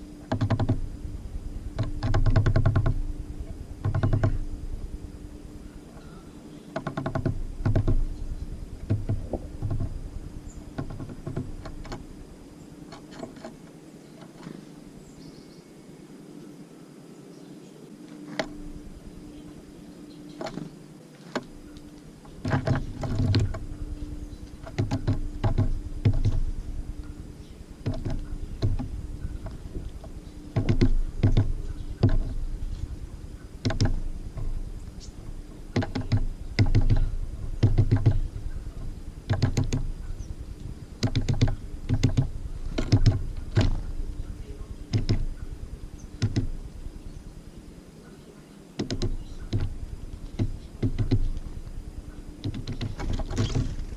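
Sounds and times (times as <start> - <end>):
birds pecking at feeder: 0.0 - 15.4, 18.1 - 53.9
faint steady hum: 0.0 - 53.9.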